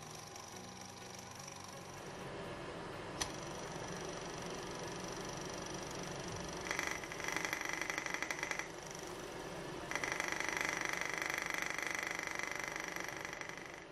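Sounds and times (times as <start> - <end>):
high engine whine: 0.0 - 13.9.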